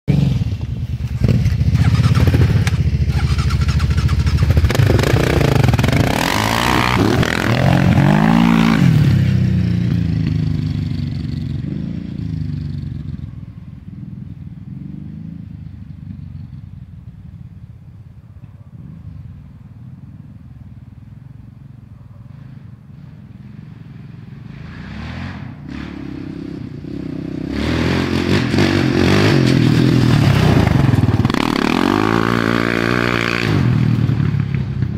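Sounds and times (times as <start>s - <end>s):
quad bike engine revving: 0.1s - 16.7s, 23.4s - 34.9s.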